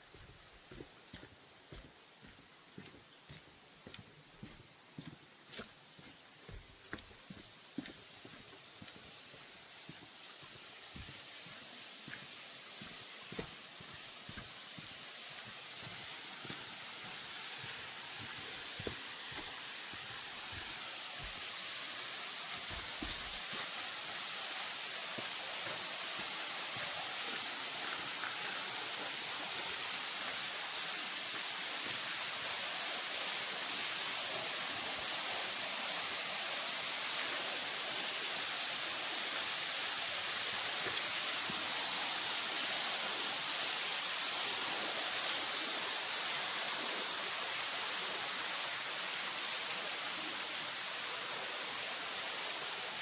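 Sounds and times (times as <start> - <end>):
waterfall rushing: 9.3 - 53.0.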